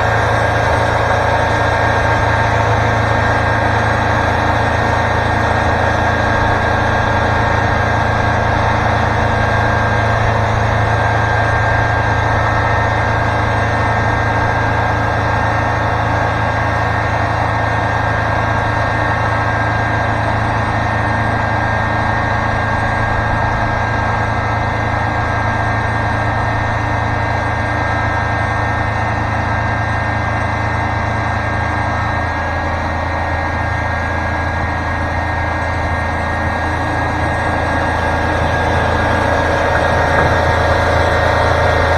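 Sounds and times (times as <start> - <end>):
sawmill engine humming: 0.0 - 41.9.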